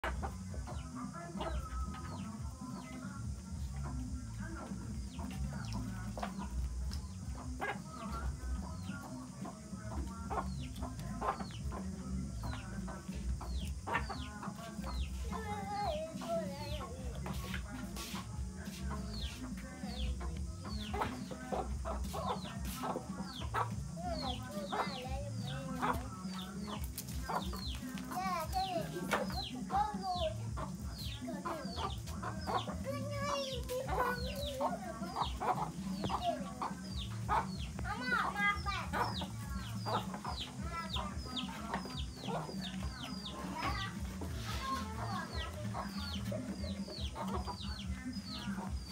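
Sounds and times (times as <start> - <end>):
chickens calling: 0.0 - 48.9
chickens clucking: 0.0 - 48.9.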